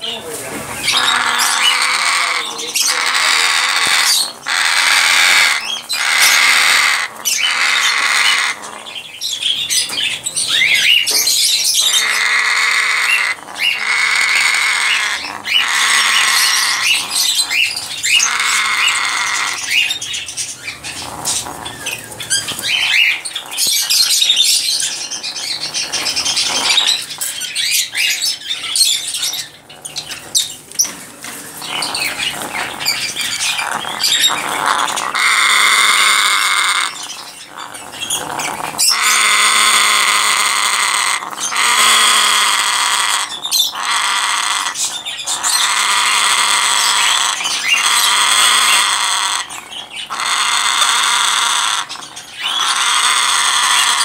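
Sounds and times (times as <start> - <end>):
parrot squawking: 0.1 - 54.0.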